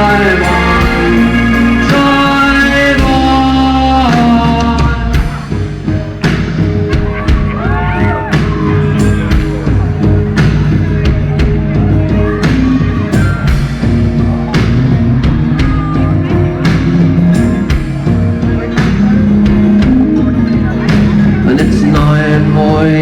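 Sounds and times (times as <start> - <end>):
drum kit beat: 0.0 - 23.0
live band playing: 0.0 - 23.0.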